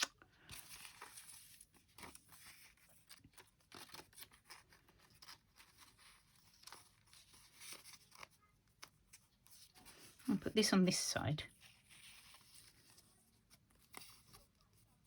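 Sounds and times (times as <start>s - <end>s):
paper rustling: 0.0s - 10.9s, 11.5s - 15.0s.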